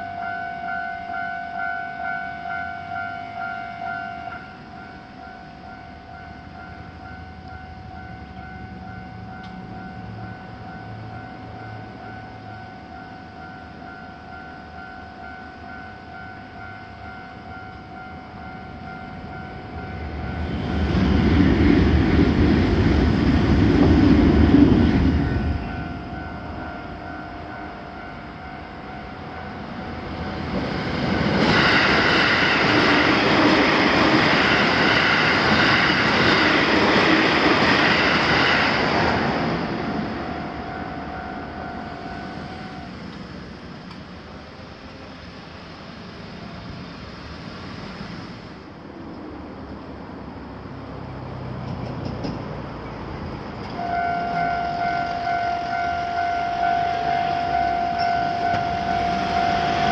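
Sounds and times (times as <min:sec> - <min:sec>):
level crossing warning bell: 0:00.0 - 0:45.1, 0:53.6 - 0:59.9
electric train running: 0:00.0 - 0:48.7, 0:50.3 - 0:59.9
passing train rush: 0:00.0 - 0:59.9.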